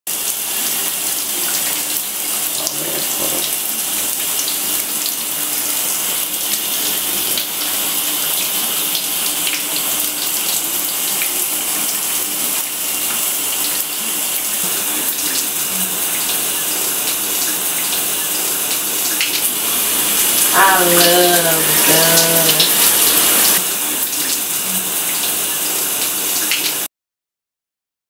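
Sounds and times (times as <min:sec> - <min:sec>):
shower spraying into tub: 0:00.1 - 0:26.9.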